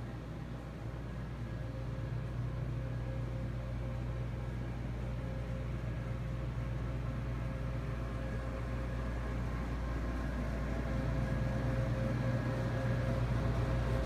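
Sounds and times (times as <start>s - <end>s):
faint steady whine: 0.0s - 14.0s
low electrical hum: 0.0s - 14.0s.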